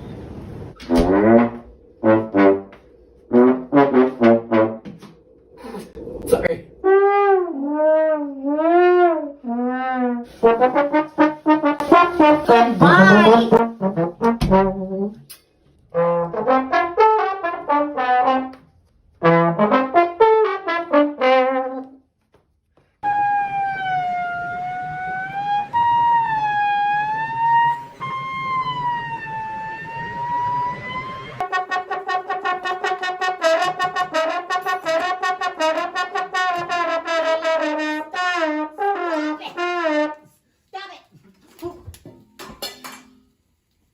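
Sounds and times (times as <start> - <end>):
brass instrument tones: 0.8 - 18.6, 19.2 - 22.0, 23.0 - 40.4.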